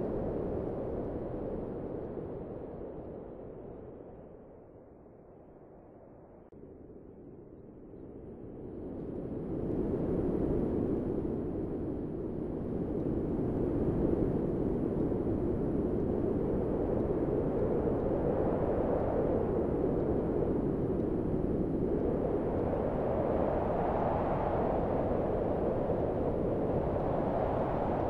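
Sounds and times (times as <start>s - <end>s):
low rush of wind: 0.0s - 28.0s.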